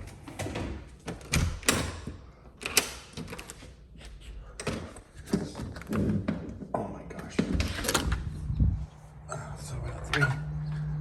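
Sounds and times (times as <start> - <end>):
doors opening and shutting: 0.0 - 11.0.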